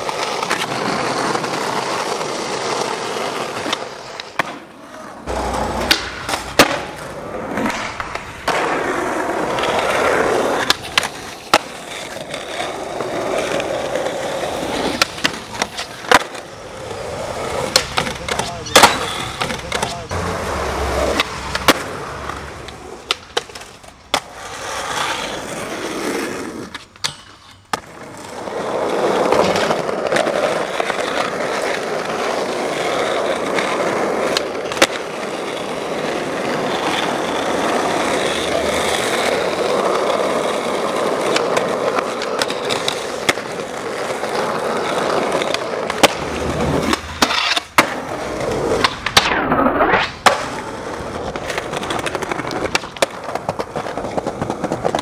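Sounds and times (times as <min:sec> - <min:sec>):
skateboard clacks: 0:00.0 - 0:55.0
skateboard wheels rolling on pavement: 0:00.0 - 0:55.0.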